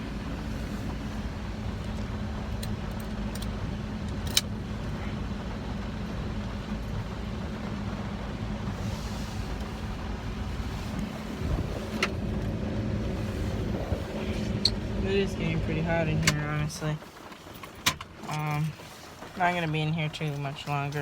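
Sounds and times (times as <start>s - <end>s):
low hum inside truck cab: 0.0s - 21.0s.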